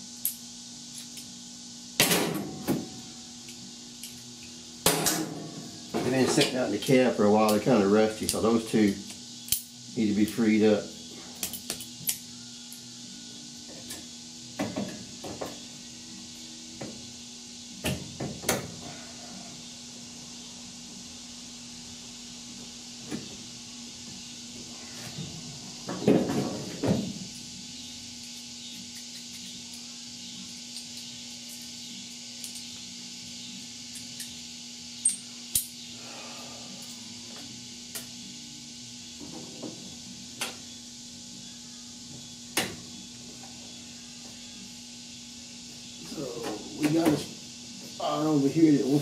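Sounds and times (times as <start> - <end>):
steady hiss: 0.0 - 49.0.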